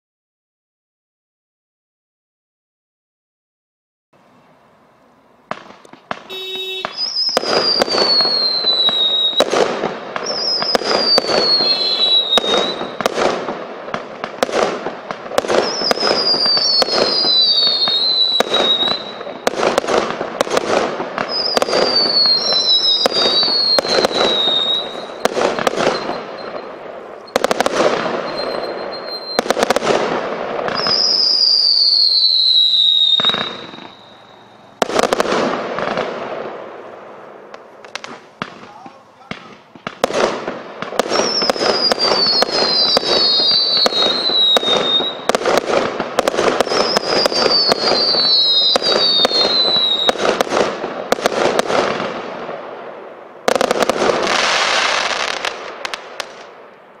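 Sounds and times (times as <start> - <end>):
fireworks bangs and bursts: 5.4 - 57.0
falling firework whistles: 5.5 - 52.3, 53.4 - 56.6.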